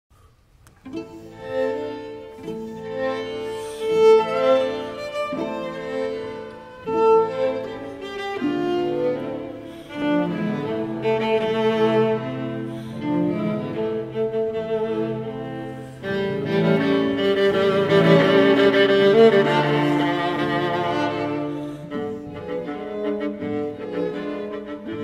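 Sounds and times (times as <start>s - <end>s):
bowed strings playing sustained notes: 0.7s - 25.0s.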